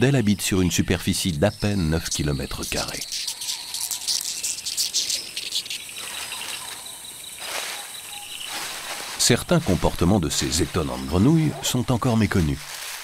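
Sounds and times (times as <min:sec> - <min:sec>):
insects chirping and trilling: 0:00.1 - 0:13.0.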